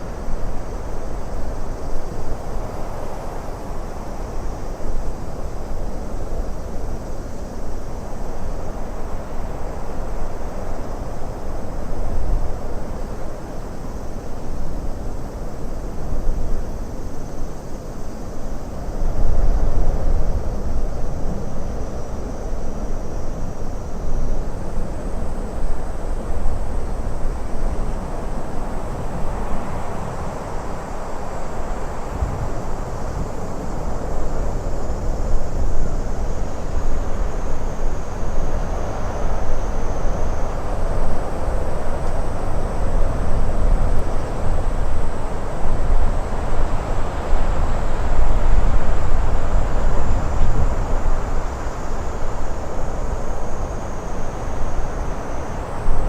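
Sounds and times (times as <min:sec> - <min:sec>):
wind blowing in gusts: 0:00.0 - 0:56.0.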